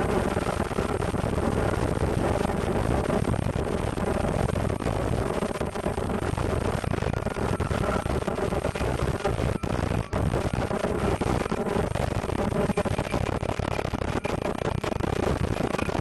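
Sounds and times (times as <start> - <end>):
machine running steadily: 0.0 - 16.0.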